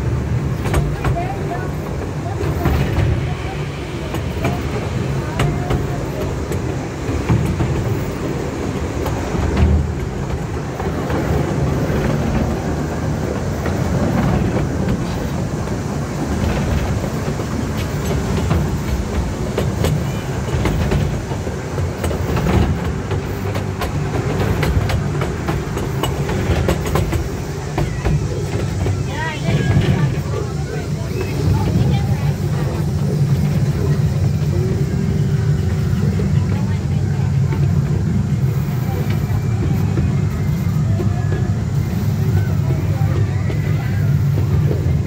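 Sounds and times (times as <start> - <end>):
ride train rumbling on track: 0.0 - 45.0.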